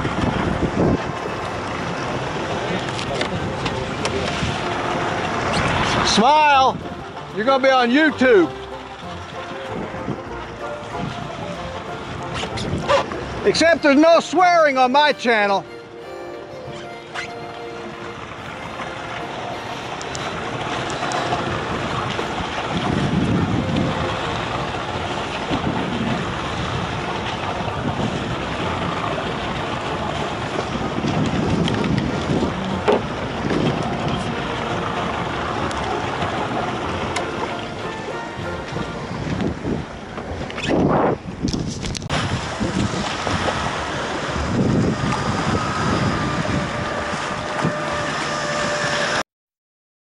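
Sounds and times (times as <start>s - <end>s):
wind on microphone: 0.0s - 7.3s, 9.0s - 13.6s, 19.5s - 49.2s
outboard motor running: 0.0s - 49.2s
water washing against boat hull: 0.0s - 49.2s.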